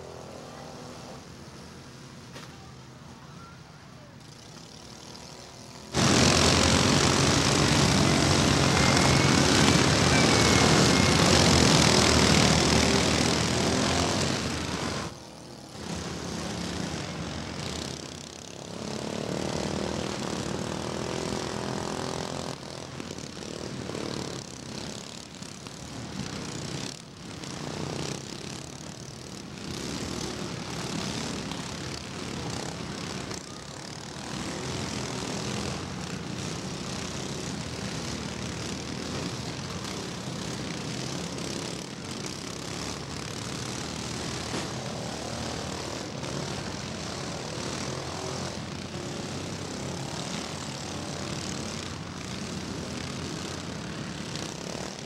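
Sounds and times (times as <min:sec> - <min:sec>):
riding lawn mower engines: 0:00.0 - 0:55.0.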